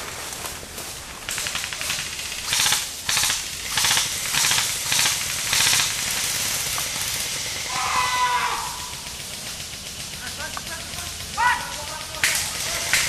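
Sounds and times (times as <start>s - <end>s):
airsoft rifle full-auto bursts: 1.0s - 13.0s.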